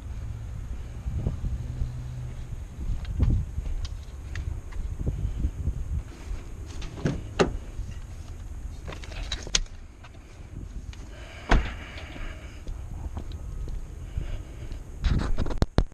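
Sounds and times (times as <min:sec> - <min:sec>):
wind rumble on microphone: 0:00.0 - 0:15.9.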